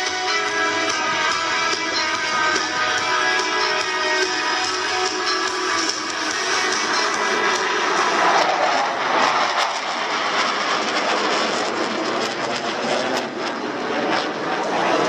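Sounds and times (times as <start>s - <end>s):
jets passing overhead: 0.0s - 15.0s.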